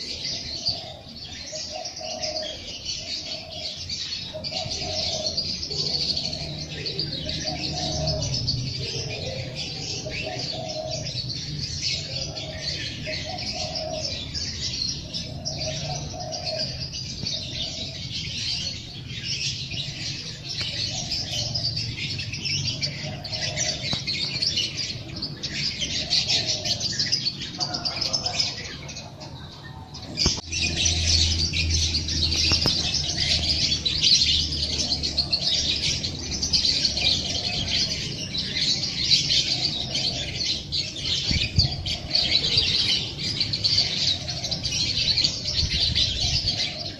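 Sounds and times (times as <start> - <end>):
dove cooing: 0.0 - 46.9
songbirds chirping: 0.0 - 46.9.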